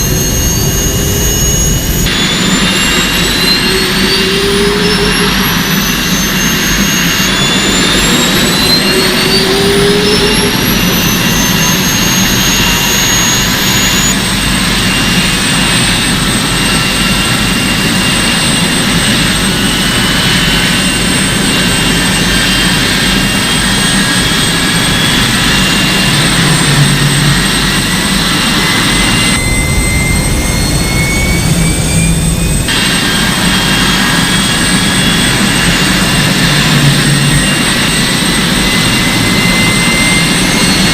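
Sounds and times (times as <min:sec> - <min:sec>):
motor whine: 0:00.0 - 0:40.9.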